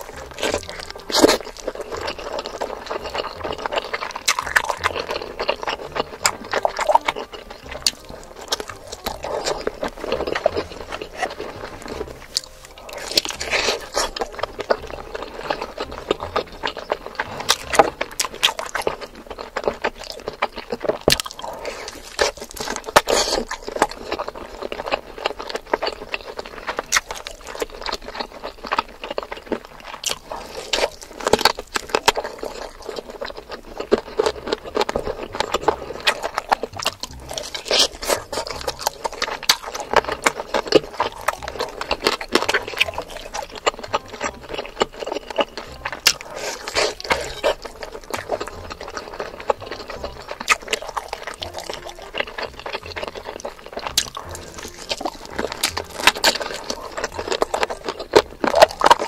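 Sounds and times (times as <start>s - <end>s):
food crunching: 0.0s - 59.0s
wet chewing and smacking: 0.0s - 59.0s.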